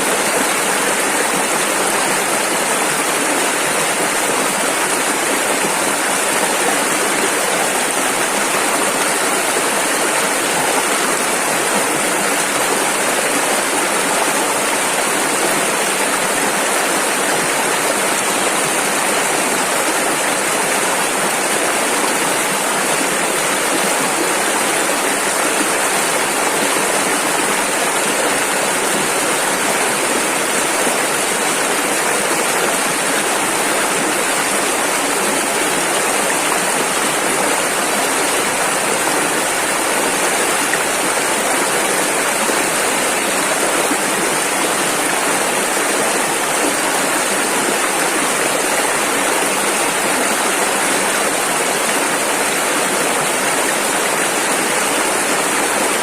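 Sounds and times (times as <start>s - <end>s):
water rushing over rapids: 0.0s - 56.0s.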